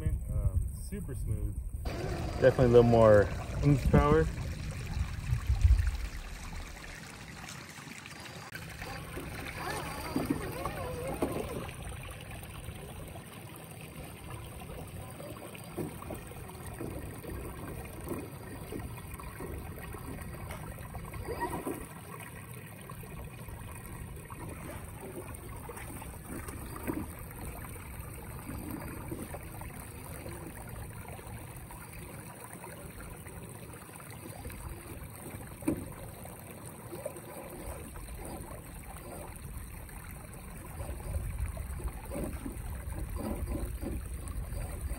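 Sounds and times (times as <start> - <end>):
stream trickling: 0.0 - 44.9.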